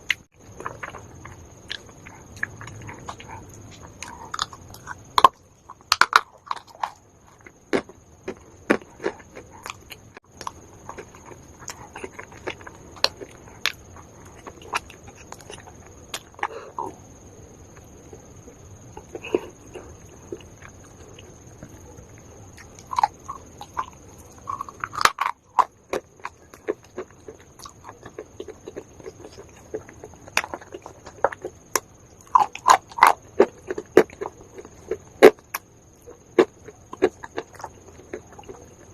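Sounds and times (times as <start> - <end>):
crunchy clay being chewed: 0.0 - 38.9.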